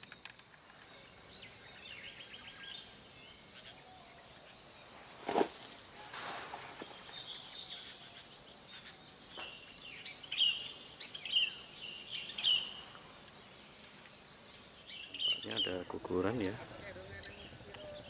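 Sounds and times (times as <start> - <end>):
bird chirping: 0.0 - 5.0, 6.5 - 18.0
faint high insect hum: 0.0 - 18.0.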